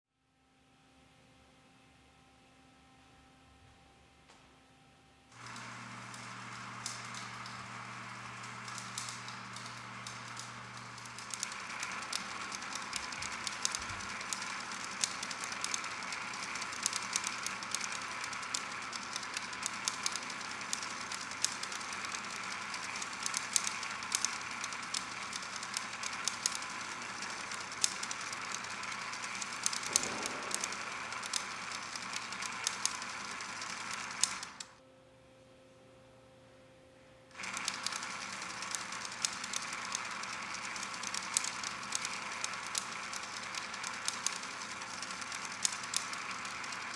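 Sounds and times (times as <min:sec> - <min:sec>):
motor hum: 0:05.3 - 0:34.8, 0:37.3 - 0:46.9
fast clicking of flipping pages: 0:05.4 - 0:34.8, 0:37.3 - 0:46.9.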